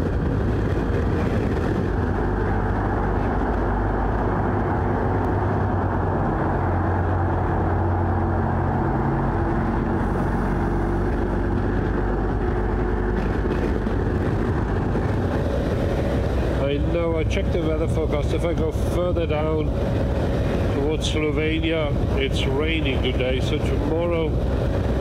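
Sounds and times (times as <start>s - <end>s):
motorcycle engine drone: 0.0s - 25.0s
rushing ride noise: 0.0s - 25.0s.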